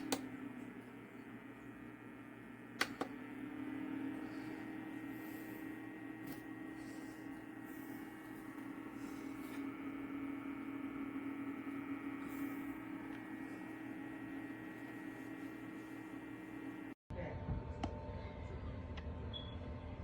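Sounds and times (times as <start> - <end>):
dehumidifier fan hum: 0.0 - 17.0.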